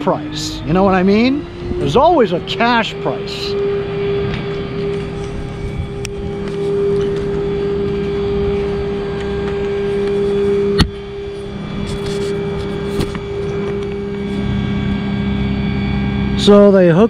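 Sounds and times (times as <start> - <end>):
truck engine idling: 0.0 - 15.5.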